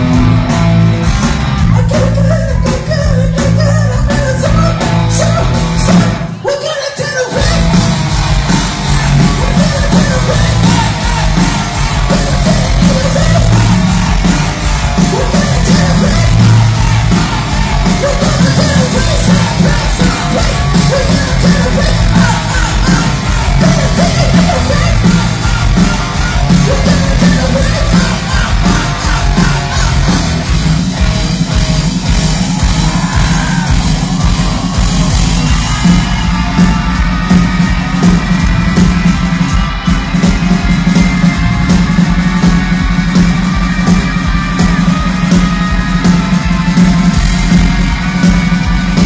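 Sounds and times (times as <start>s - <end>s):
live rock band playing: 0.0s - 49.0s
yelled and sung vocals: 1.6s - 31.1s, 32.4s - 49.0s.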